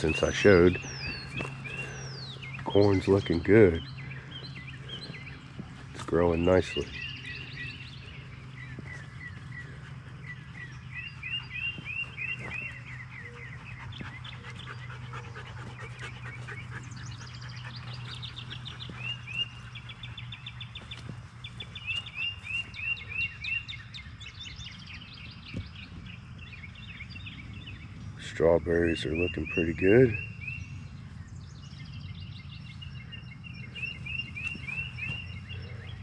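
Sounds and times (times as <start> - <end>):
songbirds chirping and trilling: 0.0 - 36.0
steady low hum: 0.0 - 36.0.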